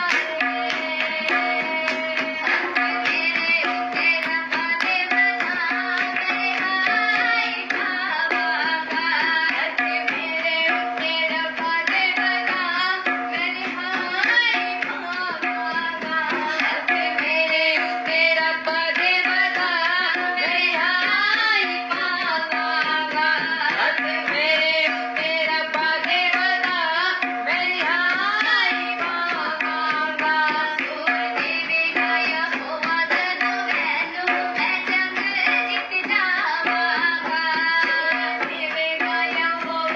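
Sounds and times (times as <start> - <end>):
tabla drumming: 0.0 - 39.9.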